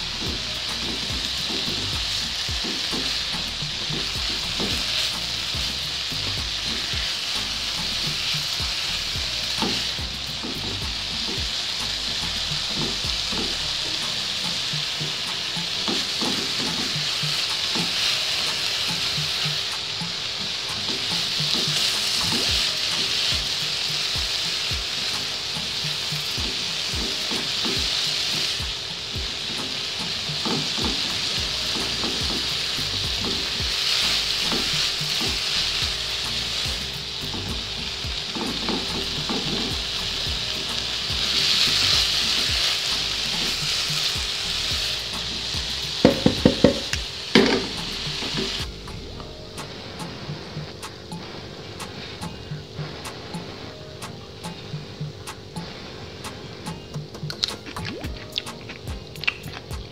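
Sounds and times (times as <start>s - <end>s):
vegetables sizzling in oil: 0.0s - 59.9s.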